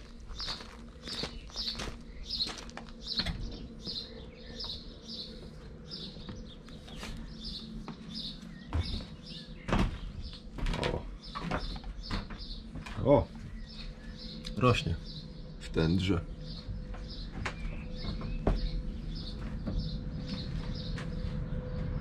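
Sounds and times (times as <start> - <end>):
songbird high chirp: 0.3 - 22.0.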